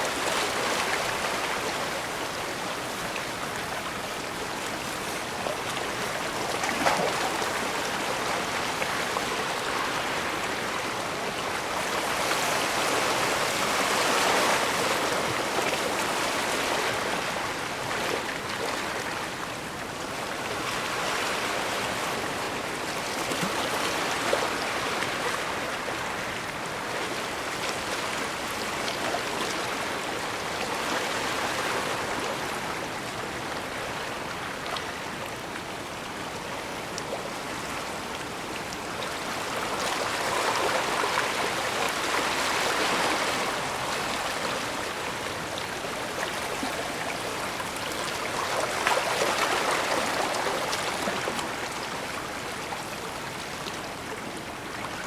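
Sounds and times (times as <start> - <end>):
seawater rushing and washing: 0.0 - 55.0.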